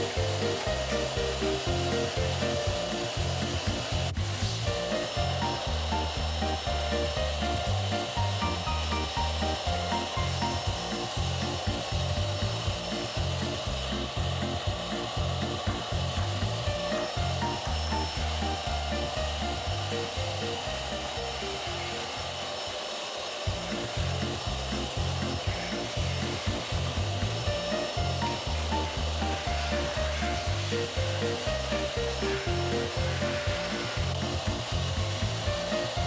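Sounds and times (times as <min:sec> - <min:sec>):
background music with beat: 0:00.0 - 0:22.8, 0:23.5 - 0:36.0.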